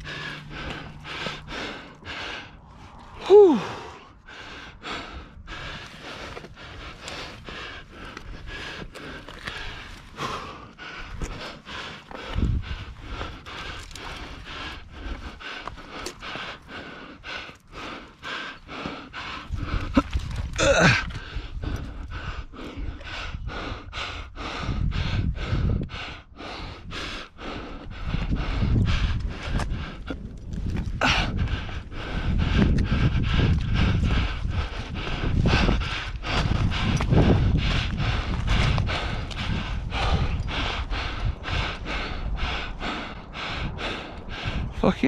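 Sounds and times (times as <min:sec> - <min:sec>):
low rumble: 0:00.0 - 0:45.0
person breathing hard: 0:00.0 - 0:45.0
person panting: 0:00.0 - 0:45.0.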